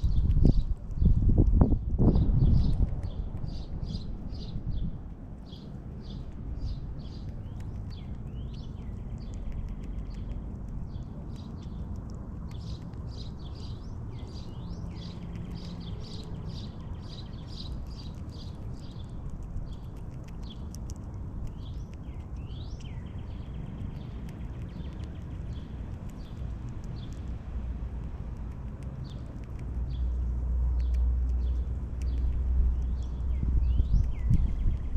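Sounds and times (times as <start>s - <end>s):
small birds chirping: 0.0s - 34.9s
steady low rumble: 0.0s - 34.9s.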